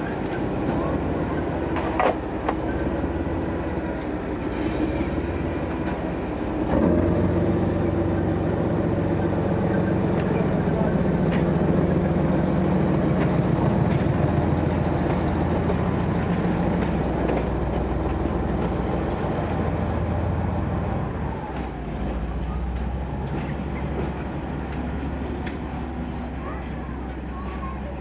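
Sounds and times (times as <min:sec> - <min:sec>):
diesel locomotive engine passing: 0:00.0 - 0:28.0.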